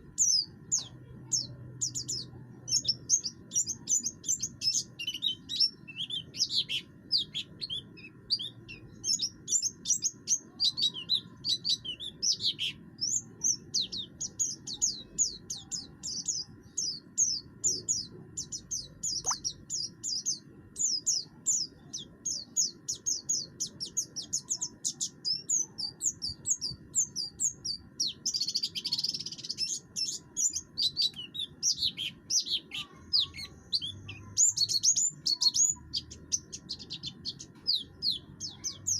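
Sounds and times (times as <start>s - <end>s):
bird singing high chirps: 0.0s - 38.9s
low steady hum: 0.0s - 38.9s.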